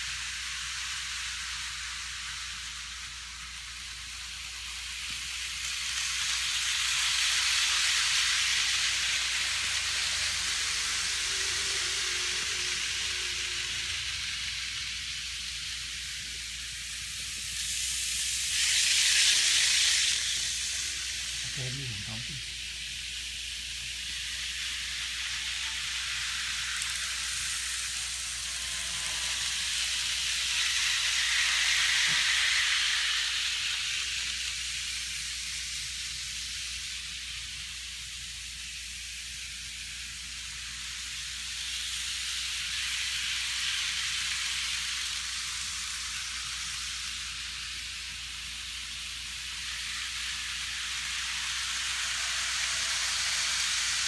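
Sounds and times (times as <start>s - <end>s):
model train hissing whir: 0.0s - 54.0s.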